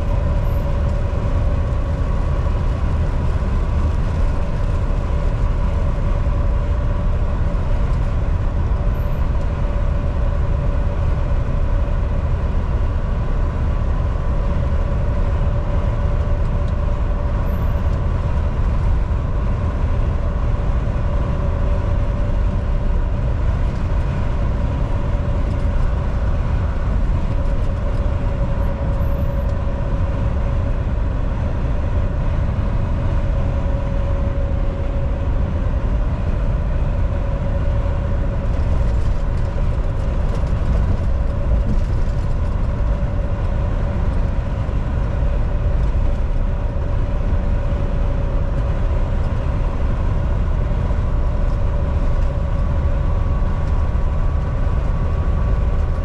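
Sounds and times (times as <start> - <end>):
truck engine rumbling: 0.0 - 56.0
tyres on road: 0.0 - 56.0.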